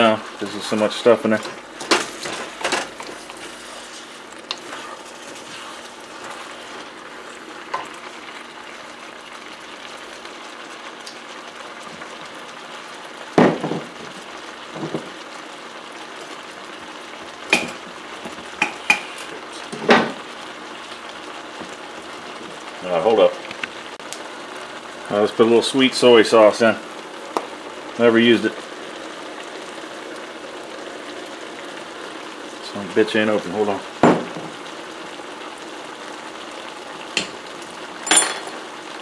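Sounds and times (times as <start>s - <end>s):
vegetables sizzling in a wok: 0.0s - 39.0s.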